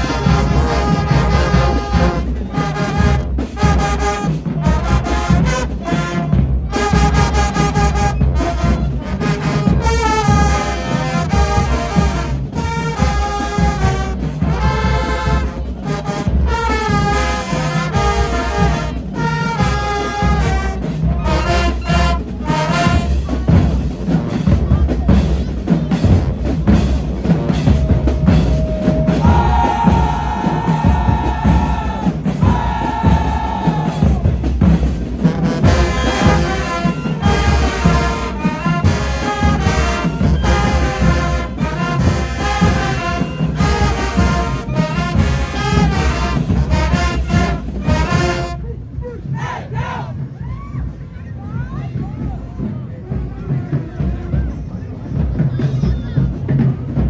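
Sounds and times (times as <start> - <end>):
brass section playing: 0.0 - 23.3, 26.1 - 48.7
steady drum beat: 0.0 - 48.6, 49.2 - 50.3.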